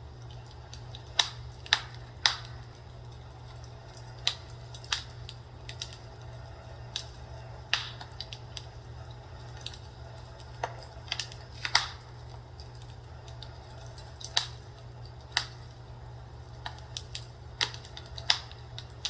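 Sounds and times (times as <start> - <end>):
fire crackling and popping: 0.0 - 19.0
steady low hum: 0.0 - 19.0.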